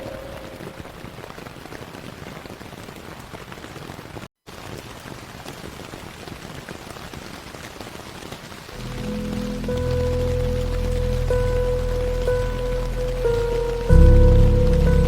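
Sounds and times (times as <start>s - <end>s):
steady rain pattering: 0.0s - 15.0s.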